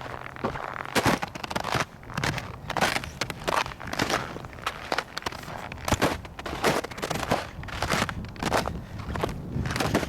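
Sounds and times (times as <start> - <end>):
footsteps crunching through snow: 0.0 - 10.0
wind rumble on microphone: 0.0 - 10.0.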